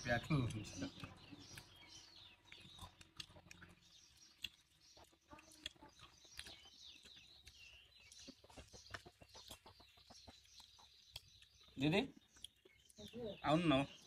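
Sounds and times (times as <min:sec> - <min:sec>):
birds chirping: 0:00.0 - 0:14.0
chewing corn kernels: 0:00.2 - 0:13.4.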